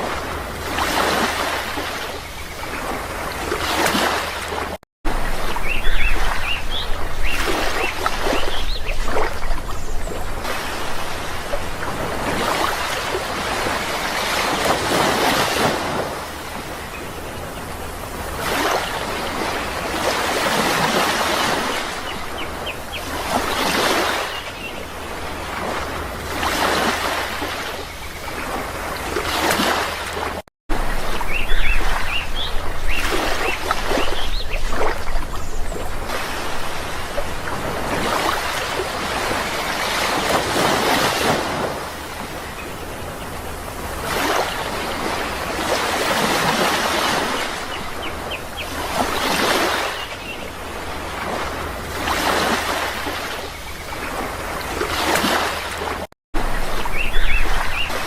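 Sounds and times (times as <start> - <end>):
sea waves washing in: 0.0 - 58.0.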